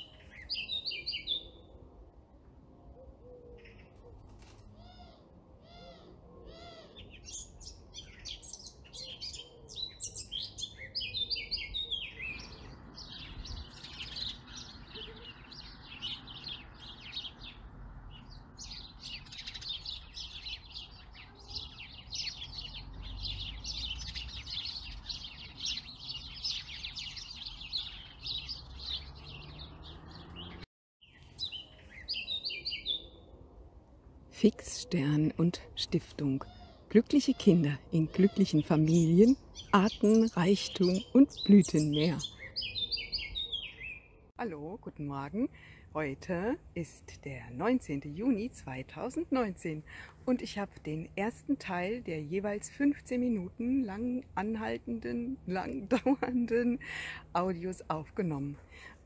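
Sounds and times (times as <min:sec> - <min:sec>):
songbirds singing and calling: 0:00.0 - 0:02.0, 0:02.7 - 0:33.6, 0:34.4 - 0:59.0.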